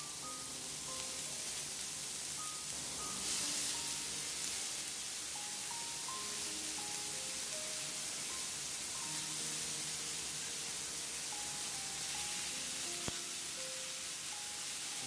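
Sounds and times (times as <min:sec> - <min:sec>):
soft background music: 0:00.0 - 0:15.0
vegetables sizzling in oil: 0:00.0 - 0:15.0.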